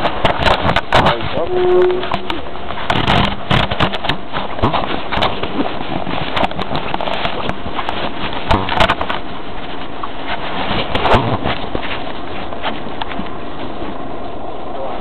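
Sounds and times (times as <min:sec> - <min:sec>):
hand rubbing on microphone: 0:00.0 - 0:14.4.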